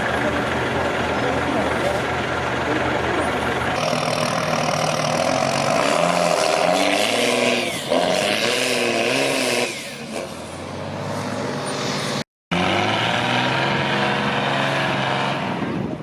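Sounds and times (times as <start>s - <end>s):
heavy truck engine revving: 0.0s - 16.0s.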